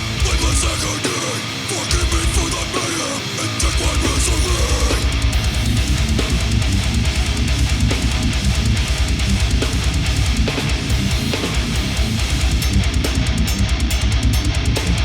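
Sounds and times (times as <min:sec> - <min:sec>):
heavy distorted guitar music: 0:00.0 - 0:15.0.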